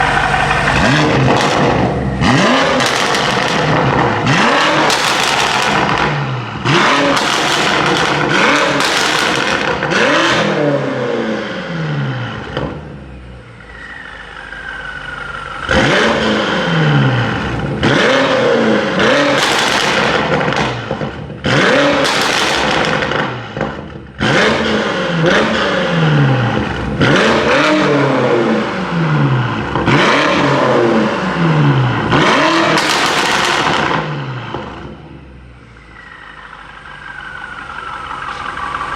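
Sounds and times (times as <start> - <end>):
car engine revving and accelerating: 0.0 - 13.0, 13.7 - 38.9.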